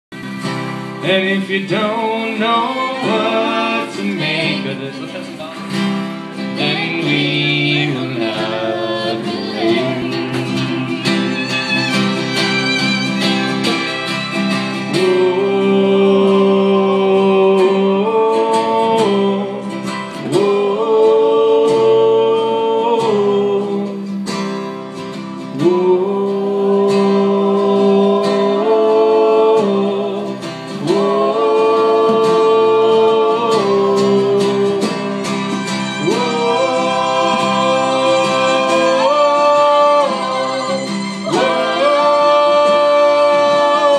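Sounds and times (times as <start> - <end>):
acoustic guitar: 0.0 - 43.9.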